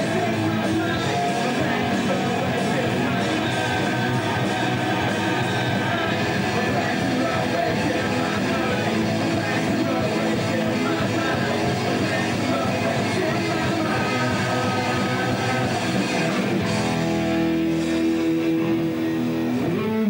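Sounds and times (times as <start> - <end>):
person singing: 0.0 - 17.0
distorted electric guitars: 0.0 - 20.0
rock band playing: 0.0 - 20.0.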